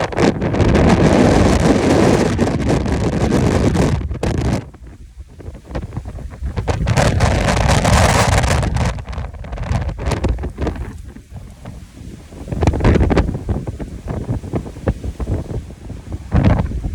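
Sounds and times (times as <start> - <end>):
wind gusting on microphone: 0.0 - 16.9.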